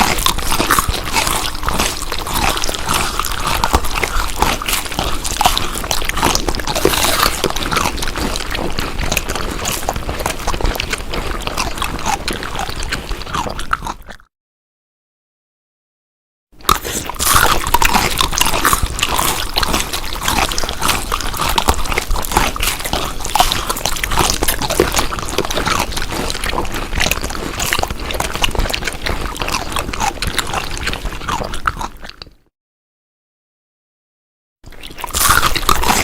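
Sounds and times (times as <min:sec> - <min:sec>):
wet chewing and smacking: 0:00.0 - 0:14.3, 0:16.6 - 0:32.5, 0:34.7 - 0:36.0.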